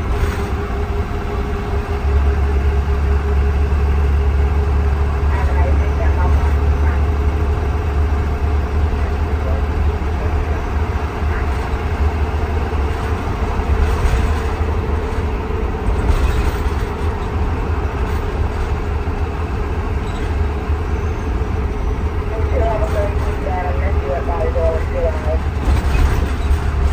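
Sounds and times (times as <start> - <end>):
bus engine and road rumble: 0.0 - 26.9
constant higher hum: 0.1 - 26.9.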